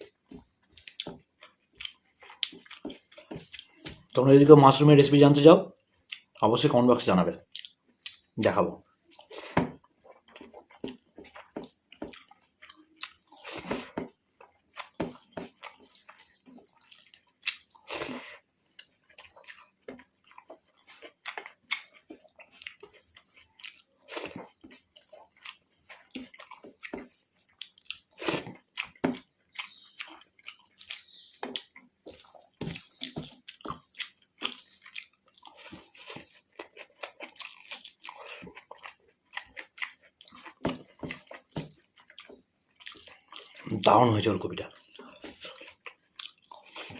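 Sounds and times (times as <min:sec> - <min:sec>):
wet chewing and lip smacking: 0:00.0 - 0:04.3, 0:05.7 - 0:06.4, 0:07.4 - 0:46.9.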